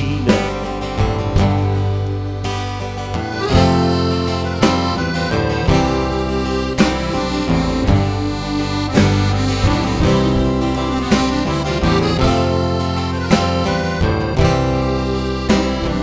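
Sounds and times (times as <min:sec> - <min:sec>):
acoustic guitar: 0:00.0 - 0:16.0
drums: 0:00.0 - 0:16.0
reedy lead melody: 0:00.0 - 0:16.0.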